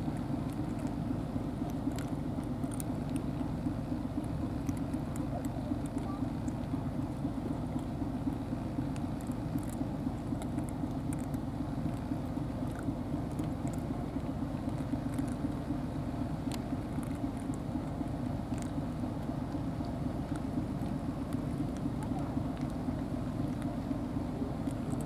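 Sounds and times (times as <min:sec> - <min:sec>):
cats crunching dry food: 0:00.0 - 0:25.0
low mechanical rumble: 0:00.0 - 0:25.0.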